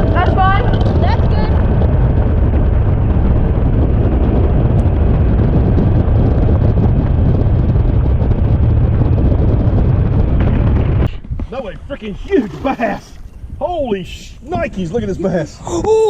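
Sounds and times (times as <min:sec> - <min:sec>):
boat engine rumble: 0:00.0 - 0:16.0
wind buffeting microphone: 0:00.0 - 0:16.0.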